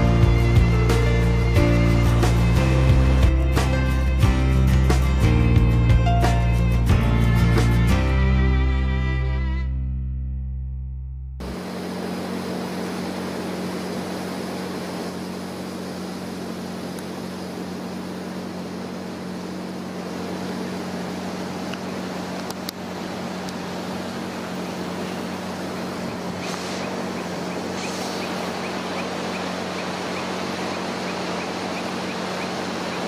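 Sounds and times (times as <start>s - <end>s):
portable generator running: 0.0s - 9.6s, 11.4s - 33.0s.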